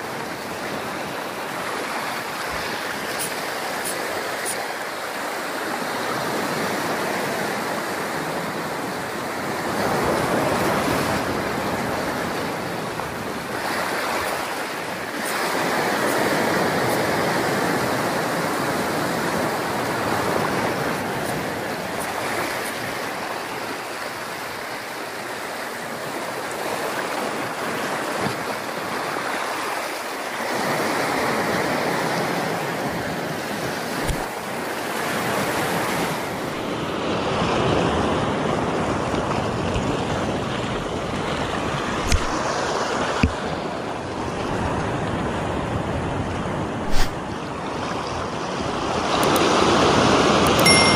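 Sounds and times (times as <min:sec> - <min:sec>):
sea waves on beach: 0:00.0 - 0:50.9.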